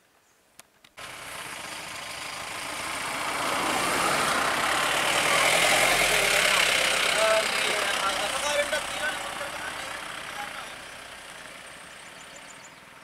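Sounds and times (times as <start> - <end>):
motorcycles driving past: 1.0 - 13.0.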